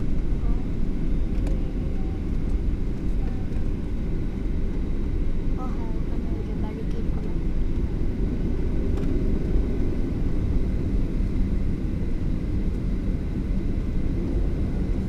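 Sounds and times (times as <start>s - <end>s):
aircraft cabin low rumble: 0.0s - 15.0s.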